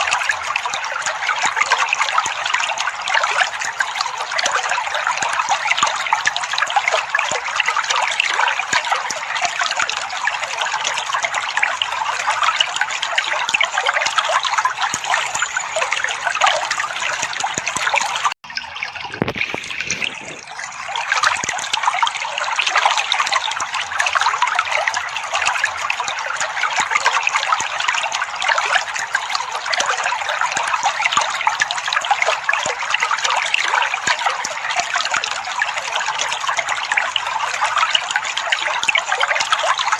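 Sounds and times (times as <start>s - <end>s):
water gurgling: 0.0s - 39.9s
water trickling: 0.0s - 39.9s.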